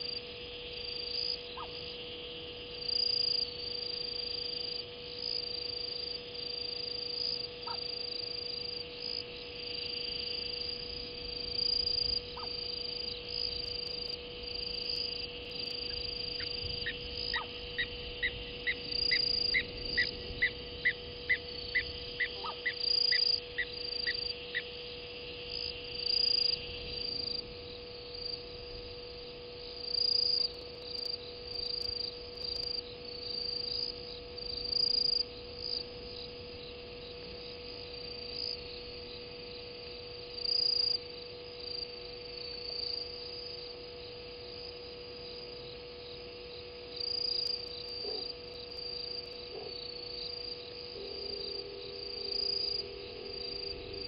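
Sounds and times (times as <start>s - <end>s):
crickets chirping: 0.0s - 54.0s
electrical hum: 0.0s - 54.0s.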